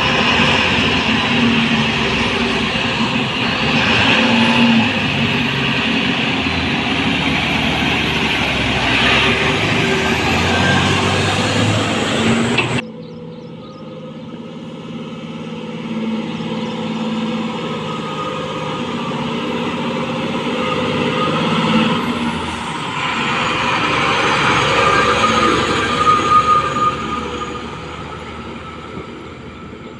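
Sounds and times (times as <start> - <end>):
heavy diesel machinery running: 0.0 - 29.9.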